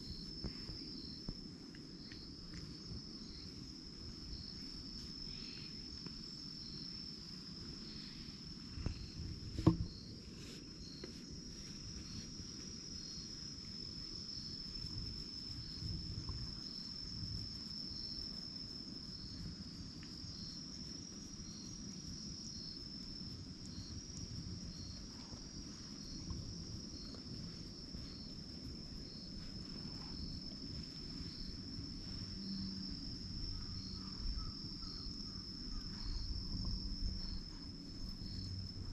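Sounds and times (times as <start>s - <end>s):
insect chirp: 0.0s - 38.9s
insects droning: 0.0s - 38.9s.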